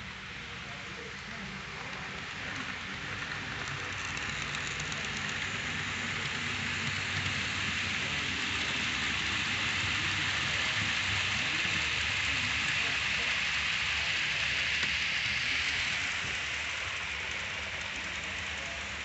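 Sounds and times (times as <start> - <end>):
model train wheels rattling: 0.8 - 19.0.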